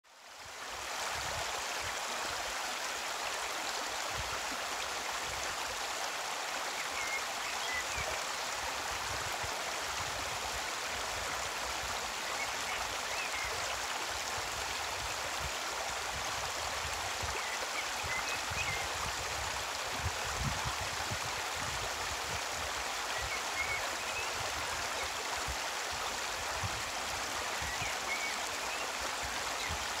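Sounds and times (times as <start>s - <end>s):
stream over pebbles: 0.1s - 30.0s.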